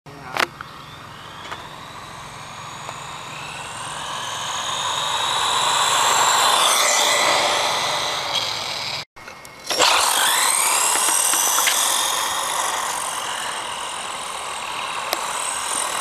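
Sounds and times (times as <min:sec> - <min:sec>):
electric rc car whining: 0:00.2 - 0:16.0.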